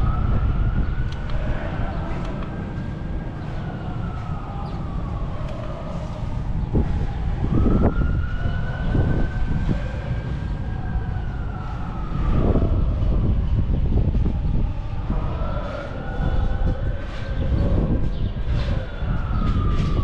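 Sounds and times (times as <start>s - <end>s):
emergency siren wailing: 0.0s - 20.0s
heavy low rumble: 0.0s - 20.0s.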